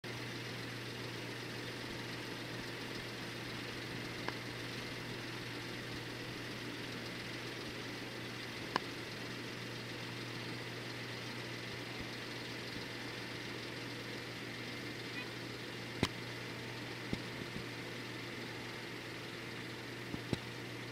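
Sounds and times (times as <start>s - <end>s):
engine idling hum: 0.0s - 20.9s.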